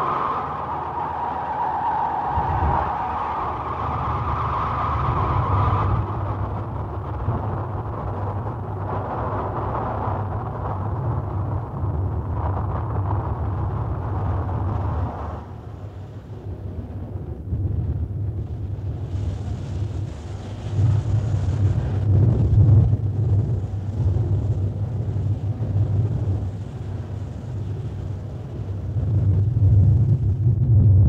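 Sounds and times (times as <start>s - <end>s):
dense rushing noise: 0.0s - 31.0s
deep low rumble: 4.7s - 31.0s.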